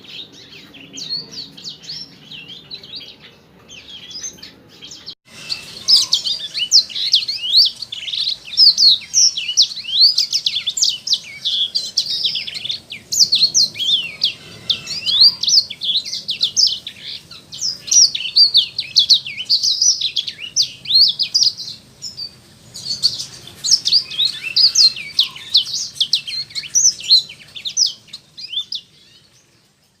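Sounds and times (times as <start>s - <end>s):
finch twittering song: 0.0s - 30.0s.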